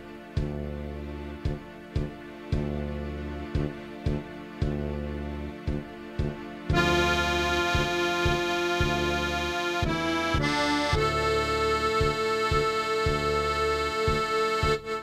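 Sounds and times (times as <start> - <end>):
digital accordion arrangement: 0.0 - 15.0
steady bass beat: 0.0 - 15.0.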